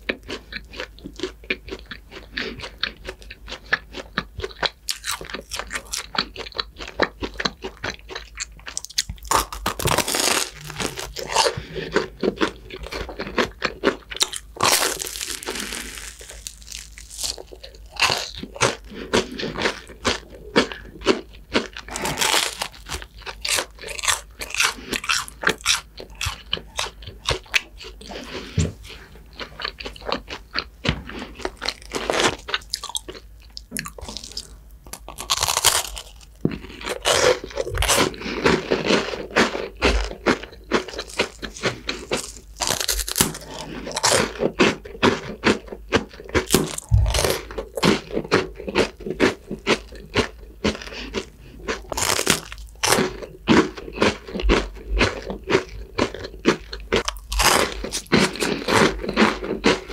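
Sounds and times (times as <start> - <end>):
crunching and chewing crispy bread: 0.0 - 59.9.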